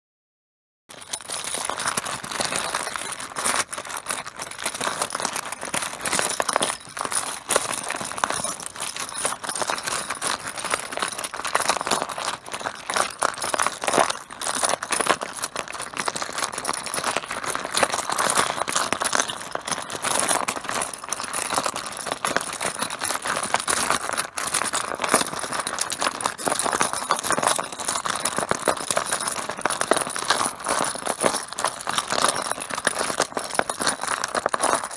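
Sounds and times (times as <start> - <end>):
mahjong tiles clattering: 0.9 - 34.9.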